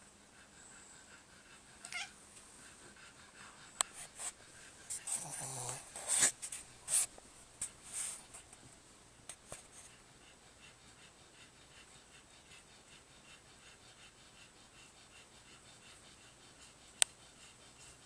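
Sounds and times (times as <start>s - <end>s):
sleeping pet breathing: 0.0s - 8.6s, 9.3s - 18.0s.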